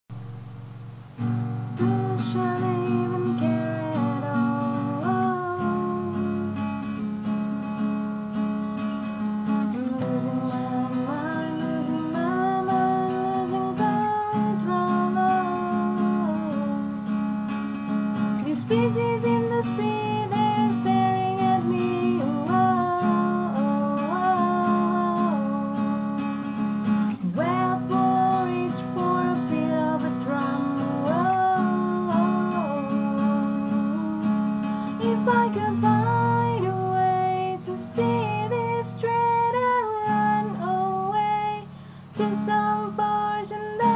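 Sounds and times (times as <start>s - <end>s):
acoustic guitar strumming chords: 0.1s - 43.9s.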